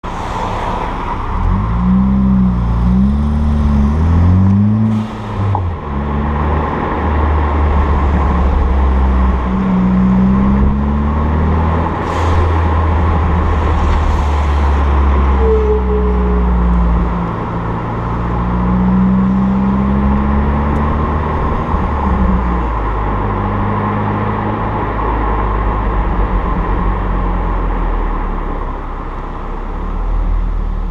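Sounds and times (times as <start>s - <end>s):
car engine and exhaust drone: 0.0s - 30.9s.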